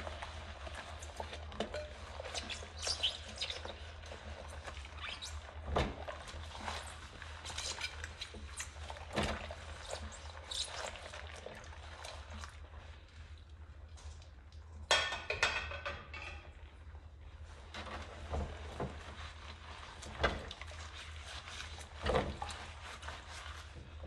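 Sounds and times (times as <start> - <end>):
sponge scrubbing ceramic plate: 0.0 - 13.3, 17.6 - 24.0
water dripping and sloshing: 0.0 - 24.0.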